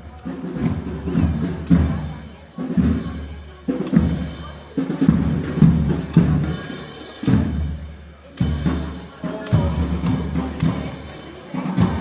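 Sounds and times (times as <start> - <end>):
parade drums beating: 0.0 - 12.0.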